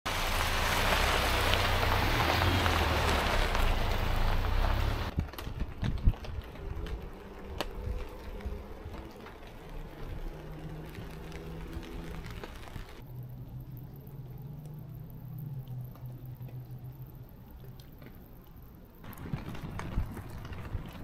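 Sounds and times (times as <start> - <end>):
pickup truck engine and tyres: 0.1 - 21.0
rain dripping on a tarp: 0.1 - 21.0.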